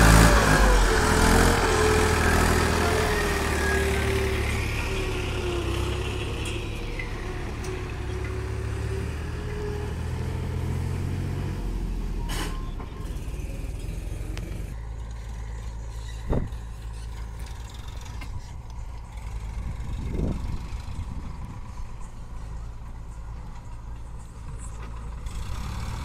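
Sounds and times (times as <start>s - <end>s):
tractor engine rumbling: 0.0s - 26.0s.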